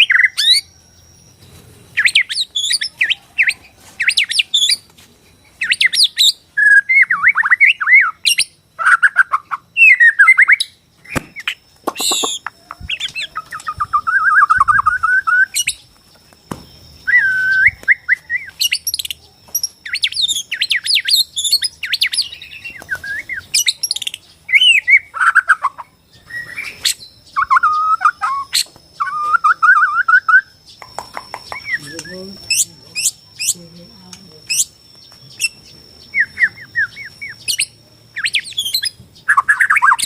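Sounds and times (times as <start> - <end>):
bird singing whistled phrases: 0.0 - 1.2, 2.0 - 4.9, 5.6 - 15.8, 16.6 - 33.9, 34.5 - 40.0.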